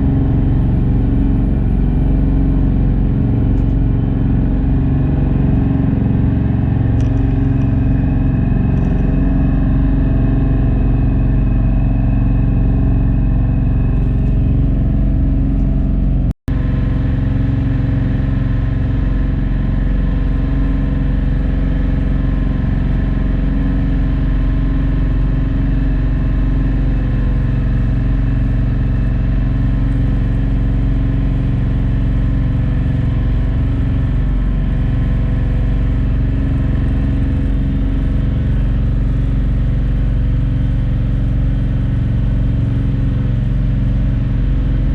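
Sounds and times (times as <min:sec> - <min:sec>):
ferry engine drone: 0:00.0 - 0:44.9.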